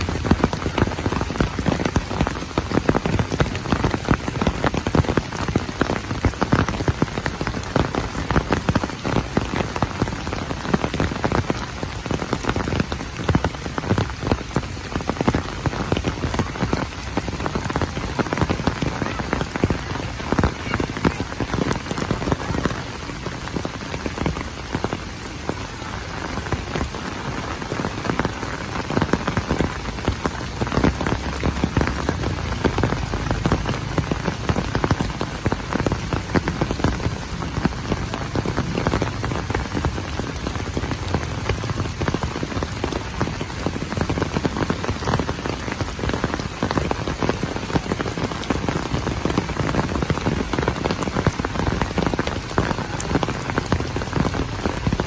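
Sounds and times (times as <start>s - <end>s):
heavy rain on hard surfaces: 0.0s - 55.0s
raindrops splashing: 0.0s - 55.0s.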